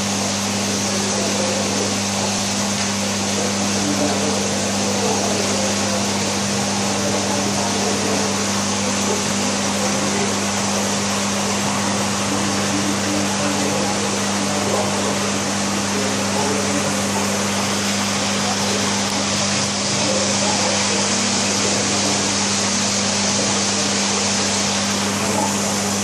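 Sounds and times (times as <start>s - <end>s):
aquarium pump hum: 0.0s - 26.0s
rushing hiss of aeration: 0.1s - 26.0s.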